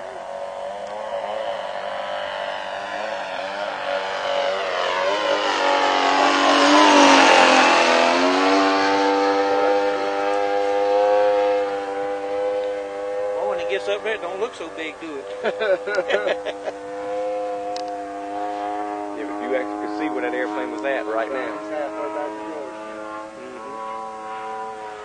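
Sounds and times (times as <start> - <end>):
model plane engine in flight: 0.0 - 25.0.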